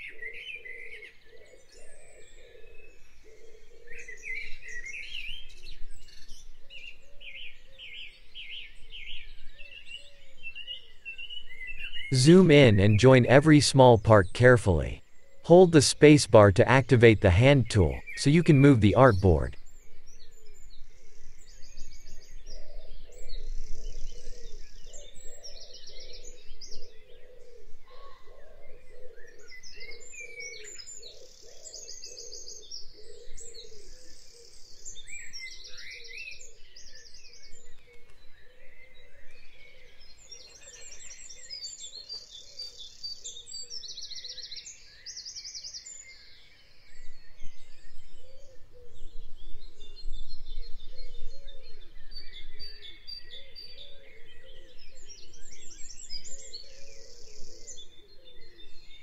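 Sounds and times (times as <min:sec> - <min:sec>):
birds twittering softly: 0:00.0 - 0:12.8, 0:15.0 - 0:15.5, 0:19.6 - 0:59.0.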